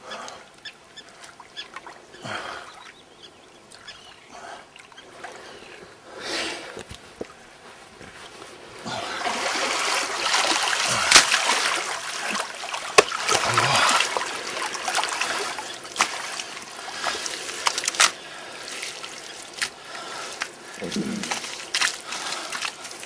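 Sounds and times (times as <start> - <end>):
water splashing and trickling: 0.1 - 3.0, 3.7 - 5.8, 8.2 - 23.0.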